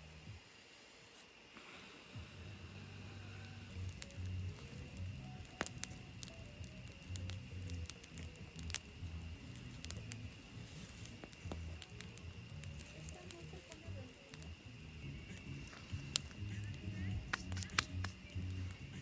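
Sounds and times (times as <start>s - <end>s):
campfire popping and crackling: 1.5s - 19.0s.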